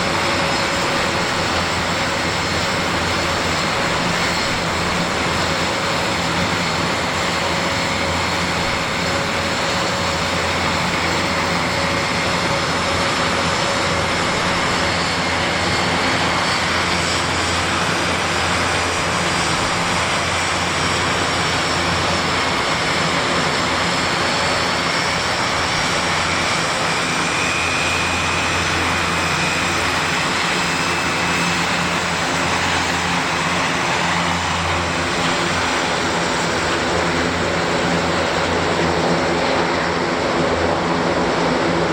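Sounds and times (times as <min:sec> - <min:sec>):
turboprop engines droning: 0:00.0 - 0:41.9.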